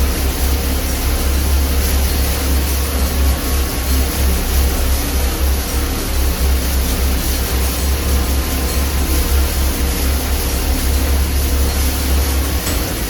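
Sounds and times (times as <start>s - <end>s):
machine running with grinding hum: 0.0s - 13.0s.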